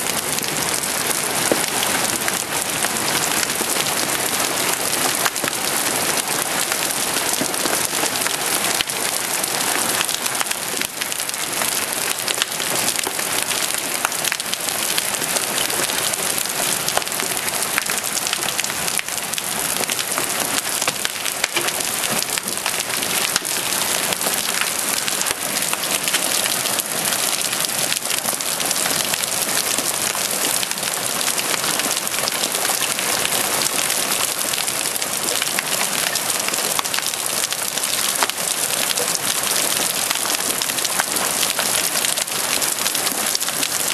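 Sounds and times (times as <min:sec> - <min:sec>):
hail and rain clattering: 0:00.0 - 0:43.9.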